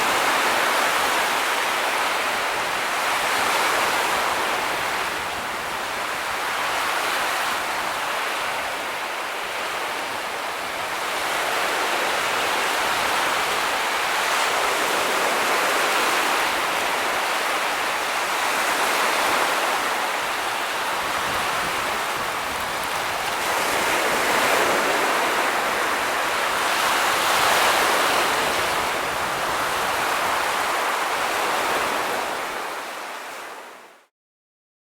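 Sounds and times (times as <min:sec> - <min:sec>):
ocean waves washing on shore: 0:00.0 - 0:34.0.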